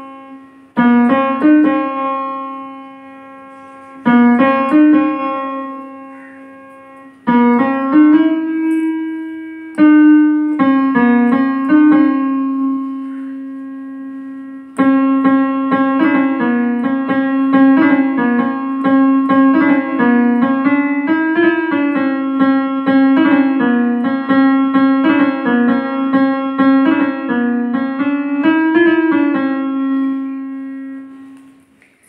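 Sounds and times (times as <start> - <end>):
keyboard piano notes: 0.0 - 32.0.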